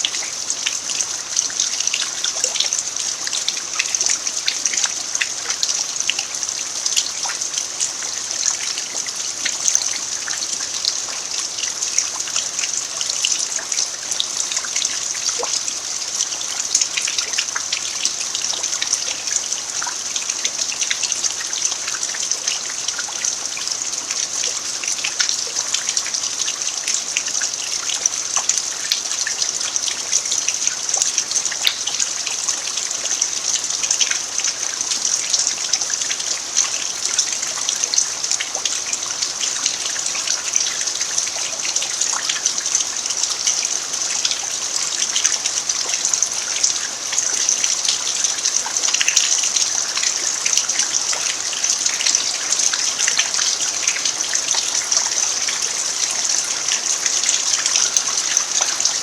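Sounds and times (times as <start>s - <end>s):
rain falling on dirt: 0.0s - 59.0s.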